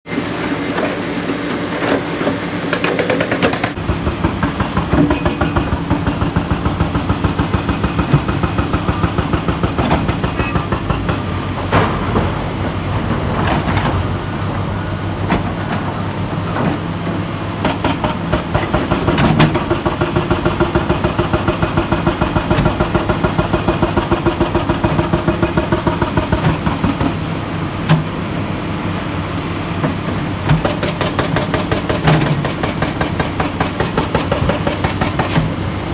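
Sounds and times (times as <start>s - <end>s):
excavator diesel engine running: 0.1s - 35.9s.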